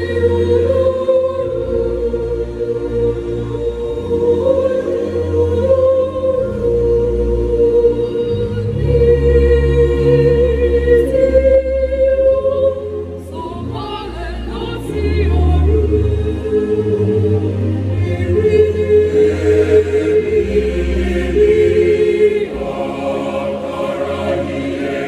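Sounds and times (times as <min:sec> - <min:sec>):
choir singing a hymn: 0:00.0 - 0:25.0.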